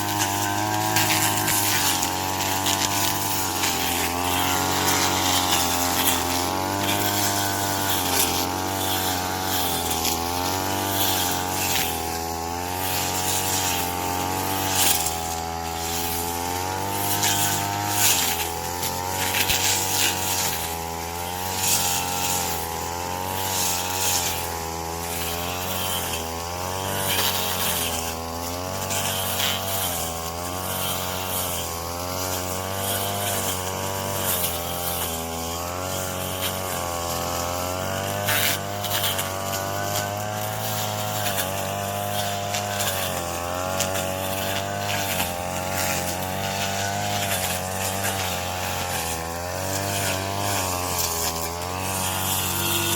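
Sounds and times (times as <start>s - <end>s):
cutting crackles: 0.0s - 52.9s
small engine running: 0.0s - 52.9s.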